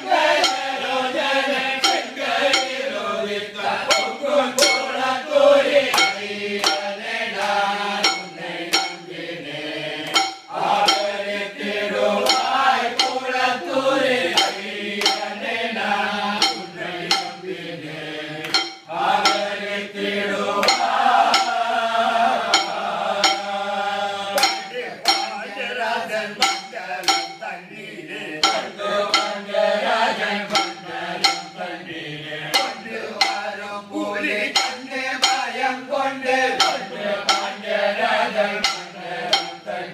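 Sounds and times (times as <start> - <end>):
men singing together: 0.0 - 39.9
sharp percussion beat: 0.0 - 39.9.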